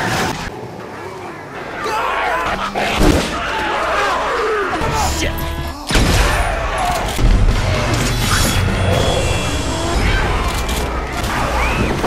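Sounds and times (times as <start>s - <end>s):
action film music: 1.8s - 12.0s.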